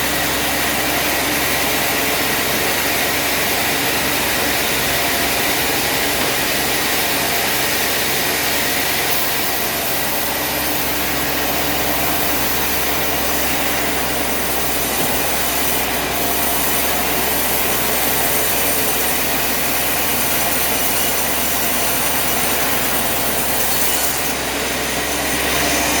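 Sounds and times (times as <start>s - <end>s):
sawmill saw cutting a log: 0.0s - 26.0s.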